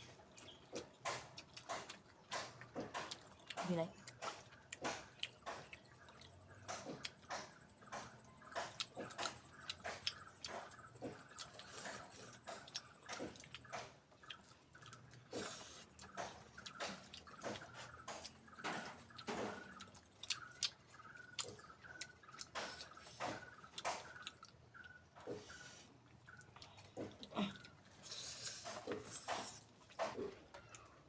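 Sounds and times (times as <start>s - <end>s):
person chewing wetly: 0.0s - 31.0s.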